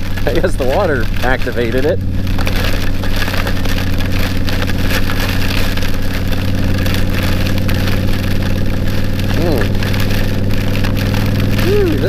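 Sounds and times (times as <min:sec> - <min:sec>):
heavy rain patter: 0:00.0 - 0:12.0
motorcycle engine cruising: 0:00.0 - 0:12.0.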